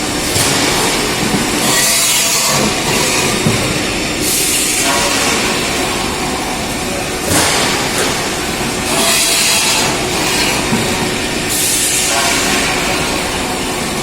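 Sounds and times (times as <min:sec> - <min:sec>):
mill mechanical clatter: 0:00.0 - 0:14.0.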